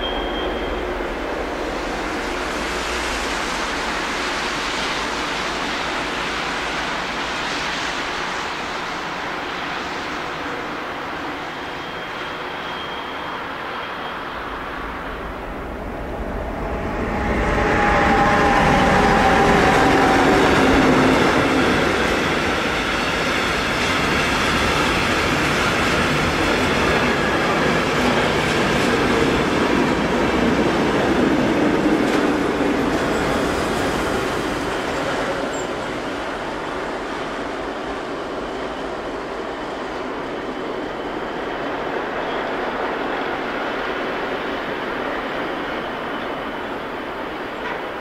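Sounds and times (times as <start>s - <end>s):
freight train wheels rumbling on rail: 0.0s - 48.0s.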